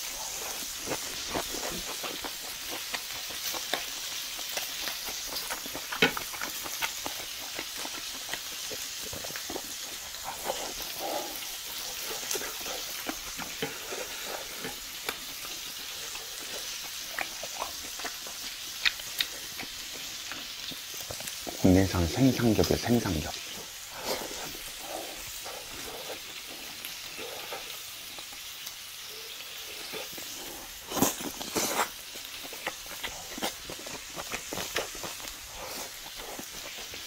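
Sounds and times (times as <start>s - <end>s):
chewing and lip-smacking: 0.0s - 21.6s, 22.5s - 37.0s
meat sizzling on a grill: 0.0s - 37.0s.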